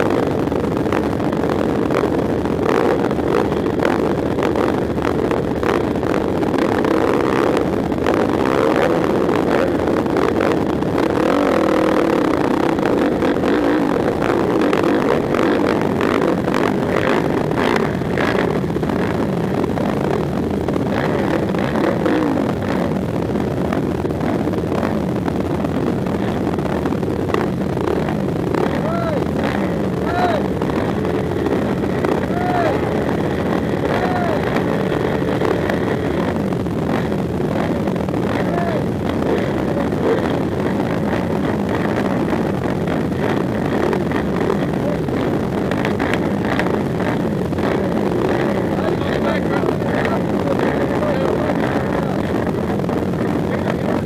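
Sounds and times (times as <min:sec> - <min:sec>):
quad engines idling and revving: 0:00.0 - 0:54.0
wind noise on microphone: 0:00.0 - 0:54.0.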